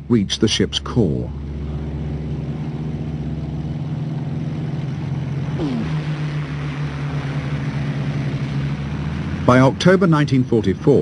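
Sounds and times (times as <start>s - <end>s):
engine drone: 0.0s - 11.0s
short falling whine: 0.0s - 11.0s.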